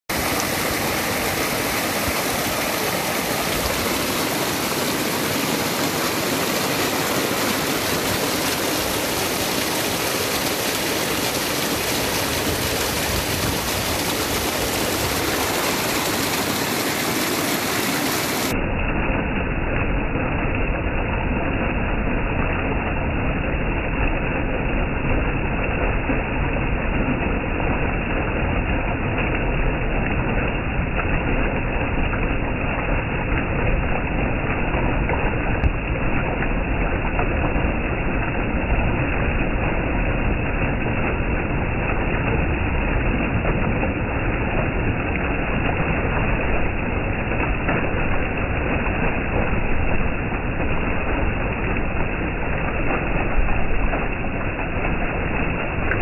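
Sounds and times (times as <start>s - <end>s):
stream cascading over rocks: 0.1s - 56.0s.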